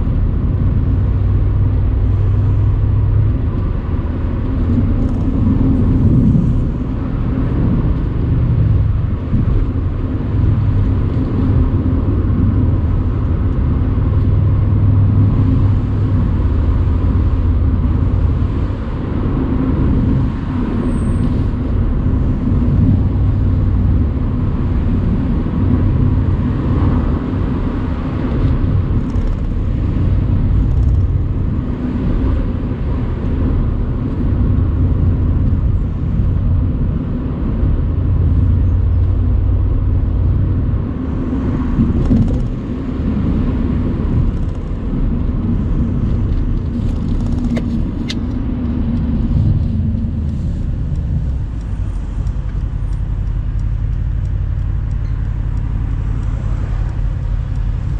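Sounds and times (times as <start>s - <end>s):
car engine drone: 0.0s - 57.9s
tyre and road noise: 0.0s - 57.9s.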